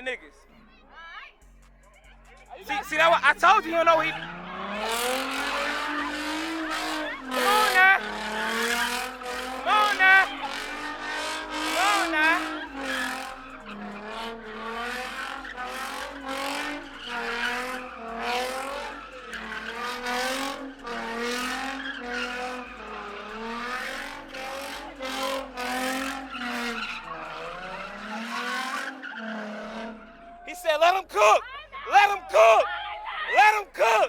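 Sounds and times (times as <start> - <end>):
car engine revving: 0.0 - 34.0
tyres squealing: 2.7 - 23.1, 24.2 - 34.0.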